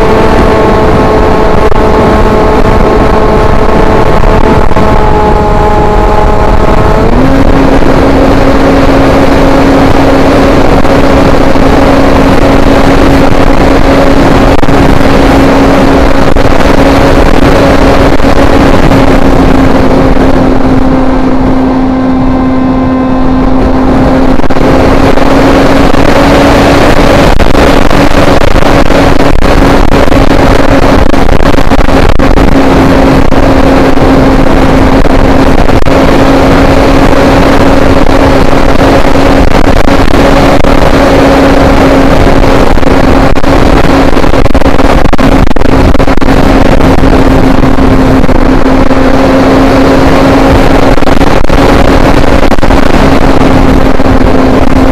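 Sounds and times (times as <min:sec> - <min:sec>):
motor and propeller drone: 0:00.0 - 0:54.9
wind rush: 0:00.0 - 0:54.9.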